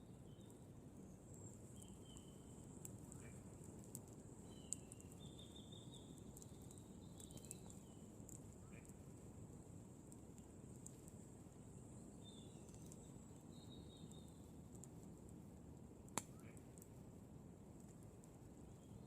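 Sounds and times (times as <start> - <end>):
campfire crackling: 0.1 - 19.0.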